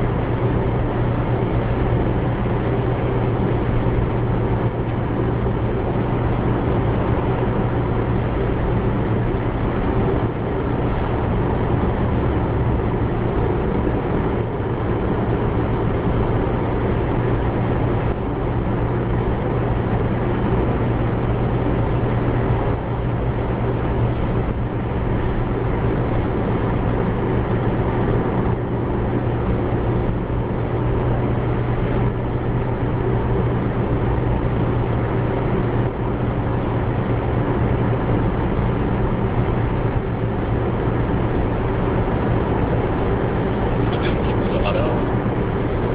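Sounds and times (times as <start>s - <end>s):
car engine hum: 0.0s - 45.9s
road rumble: 0.0s - 45.9s.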